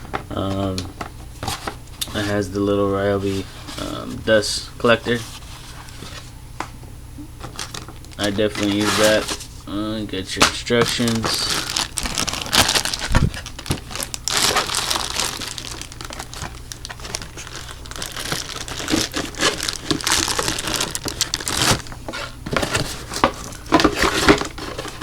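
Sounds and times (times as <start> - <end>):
packaging crinkling and rustling: 0.0 - 4.2, 7.4 - 9.6, 10.2 - 25.0.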